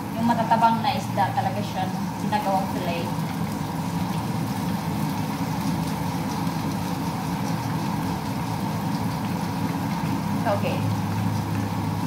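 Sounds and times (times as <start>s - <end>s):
extractor fan humming: 0.0s - 12.0s
fish frying in oil: 0.0s - 12.0s.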